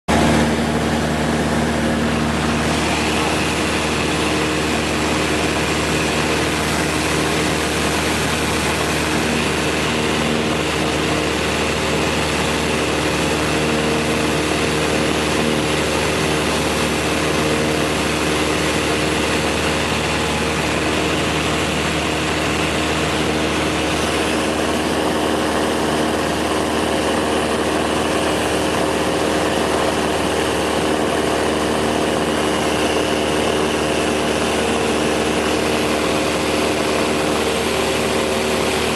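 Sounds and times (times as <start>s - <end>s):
propeller plane engine droning: 0.1s - 38.9s.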